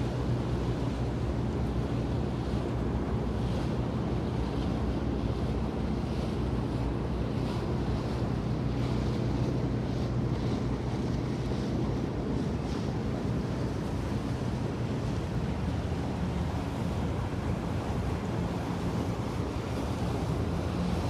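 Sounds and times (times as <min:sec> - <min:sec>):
low drone of boat engines: 0:00.0 - 0:21.0
water lapping: 0:00.0 - 0:21.0
wind: 0:00.0 - 0:21.0.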